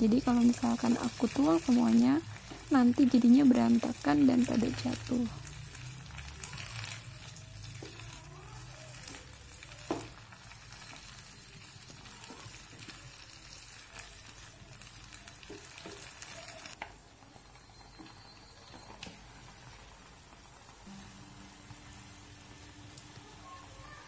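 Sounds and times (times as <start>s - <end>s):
vegetables sizzling in frying pan: 0.0s - 24.0s
wooden spatula stirring: 0.2s - 20.0s.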